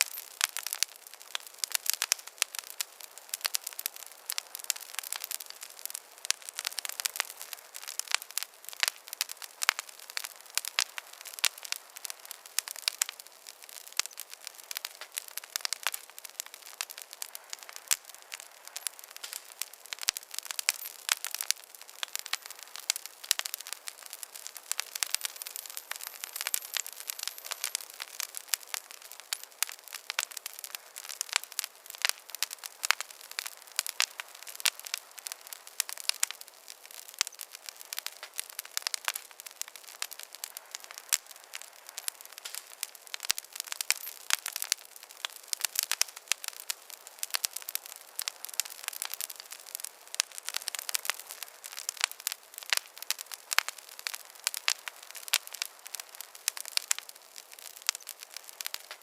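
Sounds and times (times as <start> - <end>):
campfire crackling and popping: 0.0 - 59.0
soft fire hiss: 0.0 - 59.0.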